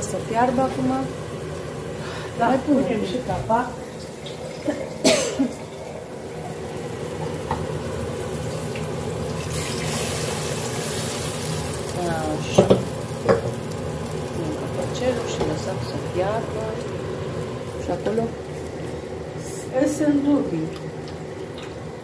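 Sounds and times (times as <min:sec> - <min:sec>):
kitchen noise hiss: 0:00.0 - 0:22.0.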